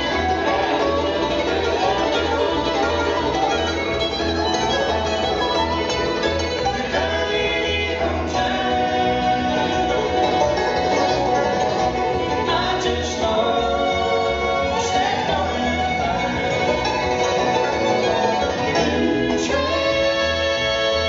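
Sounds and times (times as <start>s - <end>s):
acoustic guitar: 0.0s - 21.0s
banjo: 0.0s - 21.0s
bowed fiddle: 0.0s - 21.0s
mandolin: 0.0s - 21.0s
upright bass notes: 0.0s - 21.0s.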